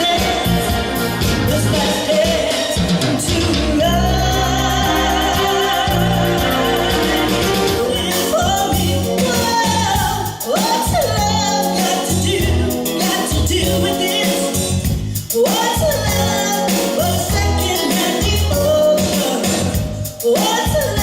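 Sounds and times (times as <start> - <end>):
steady bass beat: 0.0 - 2.0, 3.0 - 21.0
person singing: 0.0 - 21.0.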